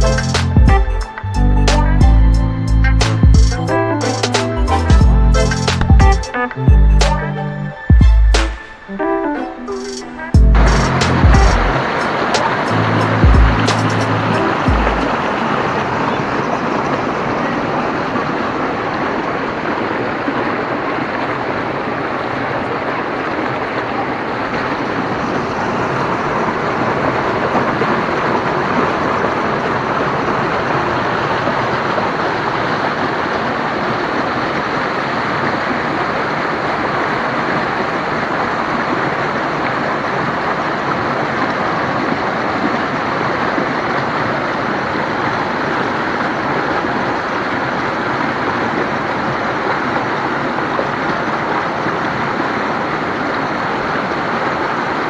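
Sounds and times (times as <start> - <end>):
waterfall rushing over boulders: 9.7 - 55.0.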